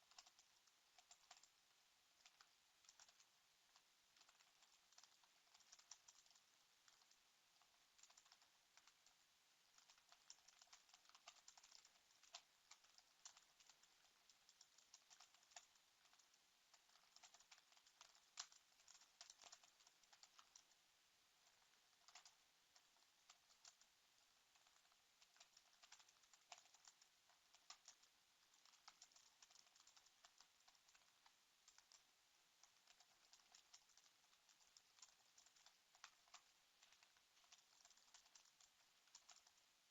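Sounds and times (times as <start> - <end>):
typing on computer keyboard: 0.0 - 1.6, 2.2 - 20.8, 21.4 - 39.9.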